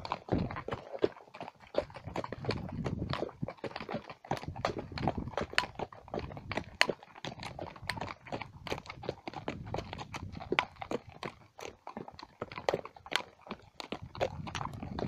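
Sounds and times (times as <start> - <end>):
hooves clip-clopping on stony track: 0.0 - 15.0.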